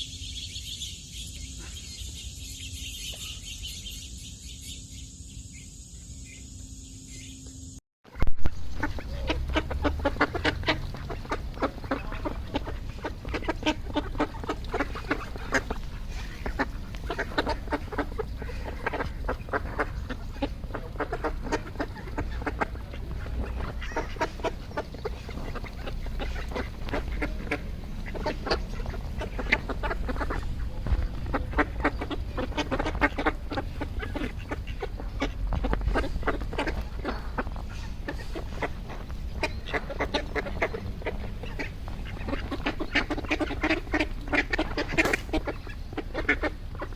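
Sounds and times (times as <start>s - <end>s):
ducks quacking: 0.0s - 4.9s, 8.1s - 46.9s.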